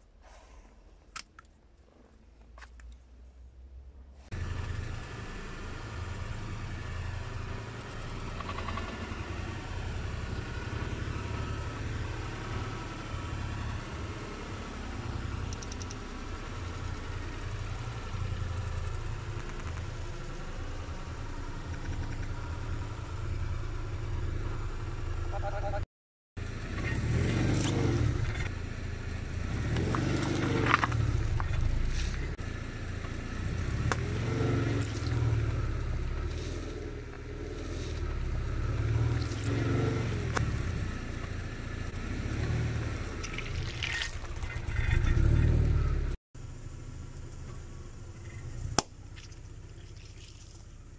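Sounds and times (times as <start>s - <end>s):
car engine rumbling: 0.0s - 50.9s.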